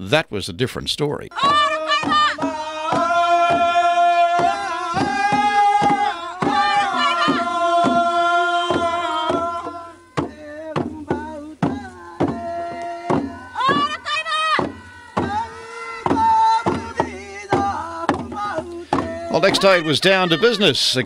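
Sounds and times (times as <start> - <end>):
drum beating: 1.3 - 21.0
group of voices singing: 1.3 - 21.0.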